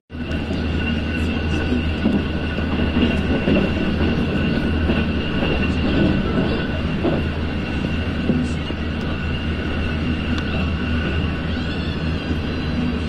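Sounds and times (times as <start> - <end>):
train wheels rumbling on rail: 0.1 - 13.0.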